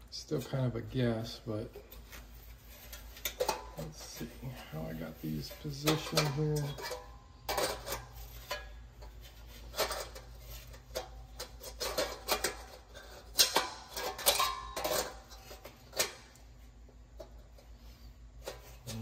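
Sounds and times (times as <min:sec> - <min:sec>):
rubbing and scraping: 0:00.2 - 0:19.0.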